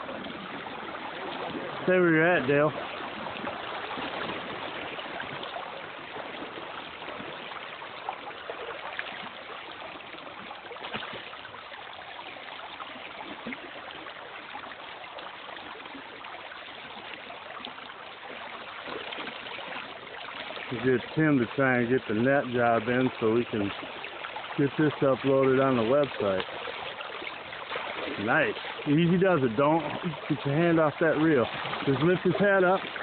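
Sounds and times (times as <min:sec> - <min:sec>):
river water rushing: 0:00.0 - 0:33.0
small water splashes: 0:00.0 - 0:33.0.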